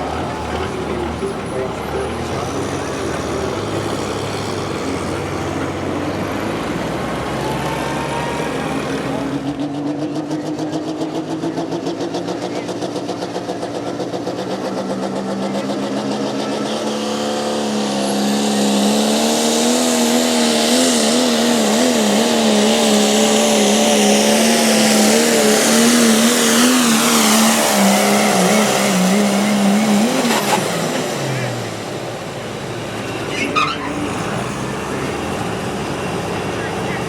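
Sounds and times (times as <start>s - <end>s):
engine running at high revs: 0.0s - 37.0s.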